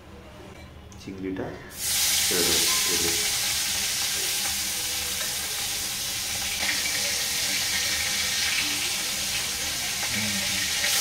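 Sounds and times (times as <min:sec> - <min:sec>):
prawns frying in oil: 0:01.7 - 0:11.0.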